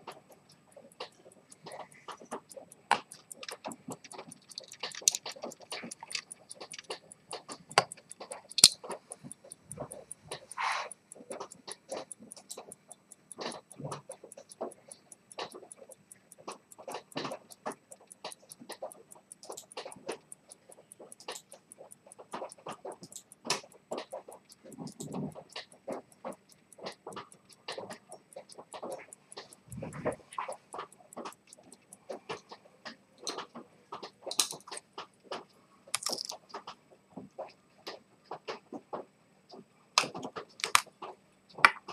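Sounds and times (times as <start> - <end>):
pocket watch ticking: 0.0 - 39.1, 40.0 - 41.9
irregular clicks: 0.0 - 41.9.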